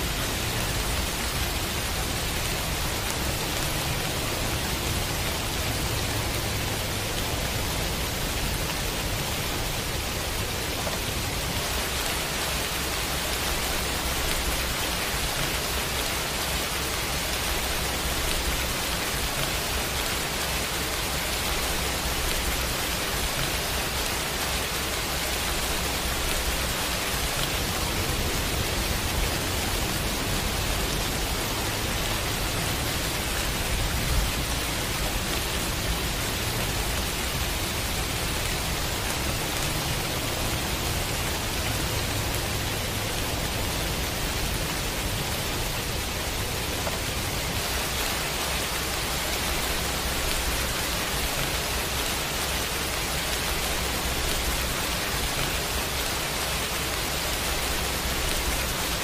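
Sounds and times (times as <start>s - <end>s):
pouring rain hiss: 0.0s - 59.0s.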